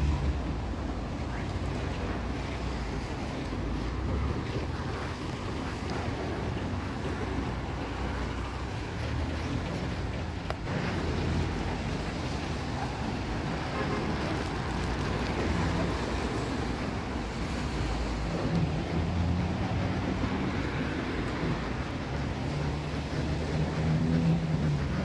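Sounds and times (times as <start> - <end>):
low traffic hum: 0.0 - 25.0.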